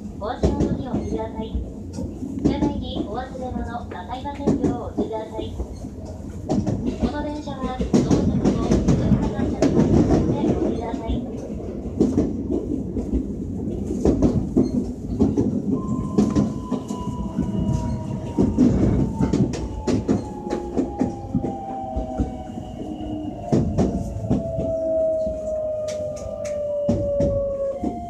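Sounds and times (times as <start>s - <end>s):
train wheels clicking over rail joints: 0.3s - 28.0s.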